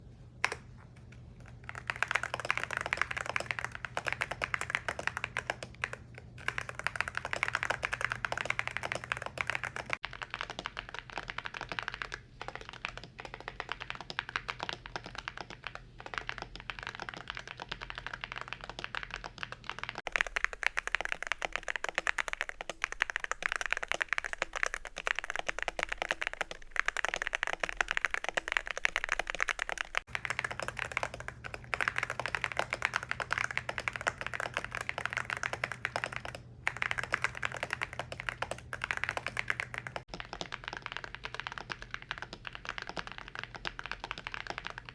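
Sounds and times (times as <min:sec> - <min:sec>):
mechanical keyboard typing: 0:00.4 - 0:44.9.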